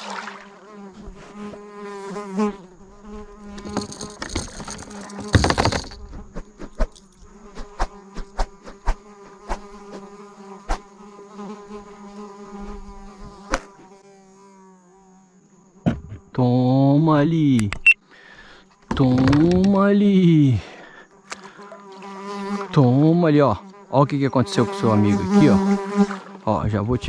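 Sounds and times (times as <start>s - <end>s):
flying insect buzzing: 0.0s - 16.7s, 20.2s - 27.0s.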